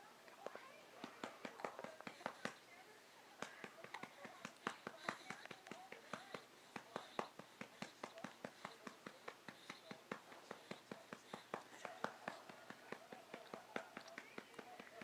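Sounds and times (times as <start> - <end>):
faint baby vocal sounds: 0.0 - 15.0
hand patting baby's back: 1.0 - 2.6, 3.4 - 15.0.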